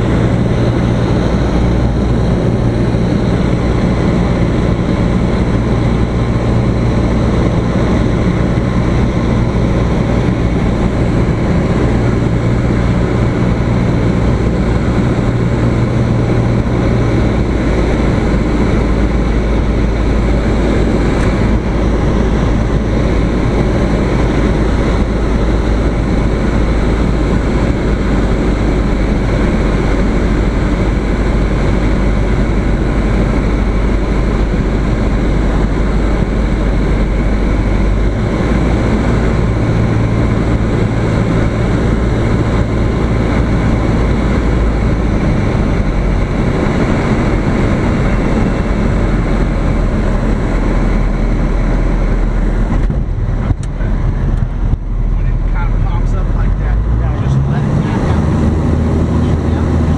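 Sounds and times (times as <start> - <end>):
propeller airplane engine drone: 0.0 - 59.9
rushing air: 0.0 - 59.9.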